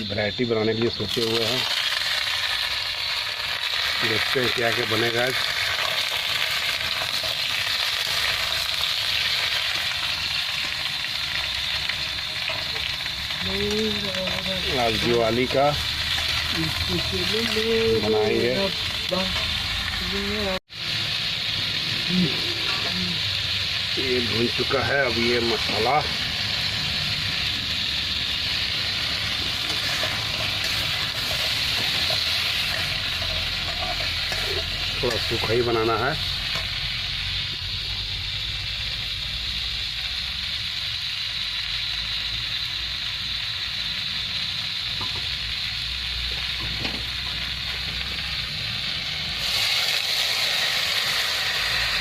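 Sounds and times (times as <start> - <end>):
food sizzling in hot oil: 0.0 - 52.0.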